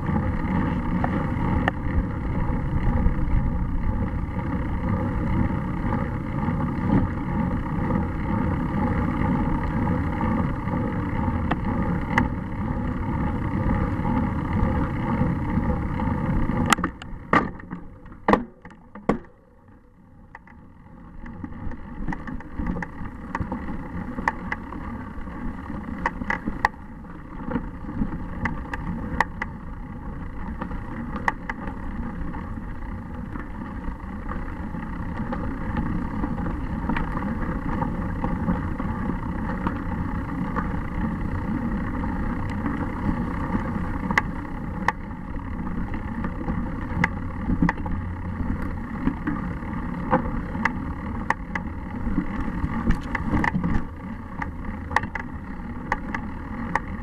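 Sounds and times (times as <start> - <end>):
bicycle rattles: 0.0 - 57.0
bicycle road rumble: 0.0 - 57.0
sharp bicycle clicks: 0.2 - 57.0.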